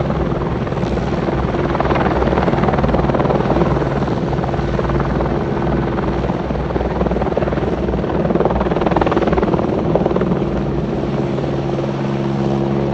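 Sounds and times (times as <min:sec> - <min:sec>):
helicopter engine hum: 0:00.0 - 0:12.9
helicopter rotor chopping: 0:00.0 - 0:12.9.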